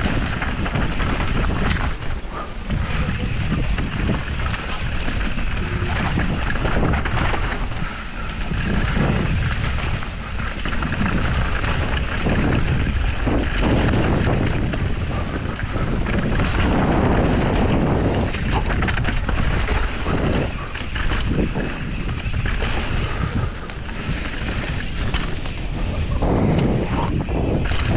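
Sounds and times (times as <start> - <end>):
bike rattling over bumps: 0.0 - 27.9
tyres rolling over dirt: 0.0 - 27.9
wind buffeting microphone: 0.0 - 27.9.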